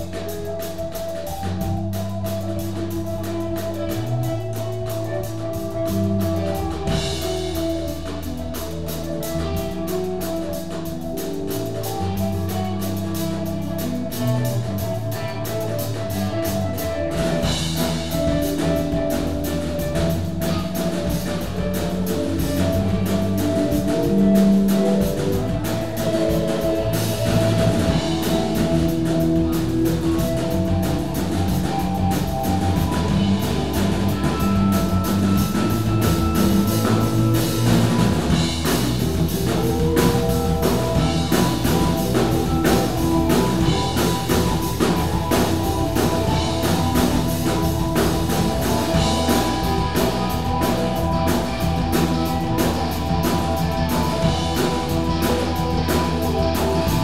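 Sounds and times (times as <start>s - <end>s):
bass guitar: 0.0s - 57.0s
drum beats: 0.0s - 57.0s
electric guitars: 0.0s - 57.0s
keyboard: 0.0s - 57.0s.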